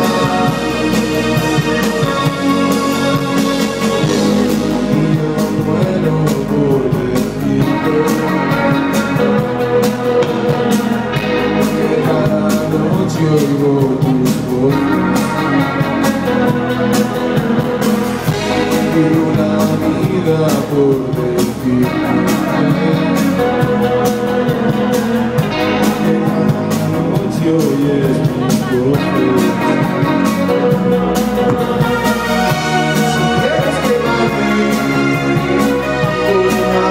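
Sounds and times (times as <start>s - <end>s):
drums: 0.0s - 36.9s
electric guitar: 0.0s - 36.9s
keyboard: 0.0s - 36.9s
person singing: 0.0s - 36.9s.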